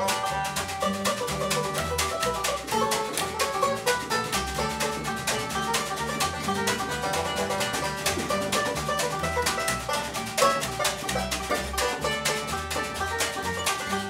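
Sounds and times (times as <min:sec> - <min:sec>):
snare drum beat: 0:00.0 - 0:13.7
banjo picking: 0:00.0 - 0:14.0
upright double bass: 0:00.0 - 0:14.0.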